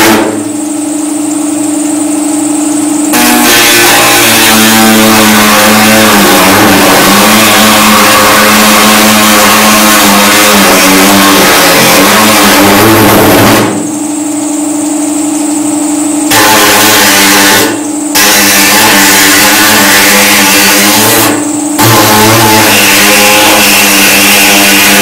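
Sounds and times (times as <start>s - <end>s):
power cutting tool cutting sheet metal: 0.0s - 25.0s.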